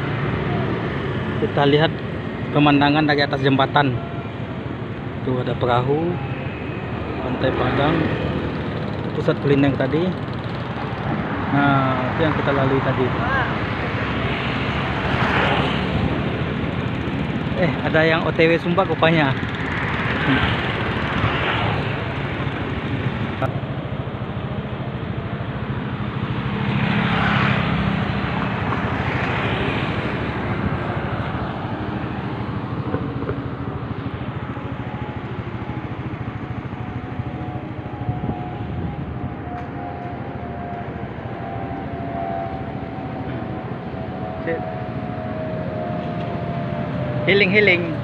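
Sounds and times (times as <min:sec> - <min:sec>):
faint engine hum: 0:00.0 - 0:48.0
vehicles driving past: 0:00.0 - 0:48.0.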